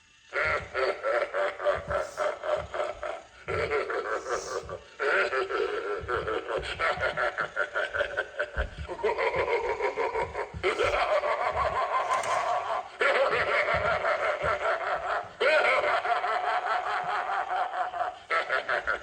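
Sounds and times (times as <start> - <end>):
creepy recorded snickering laughter: 0.1 - 19.0.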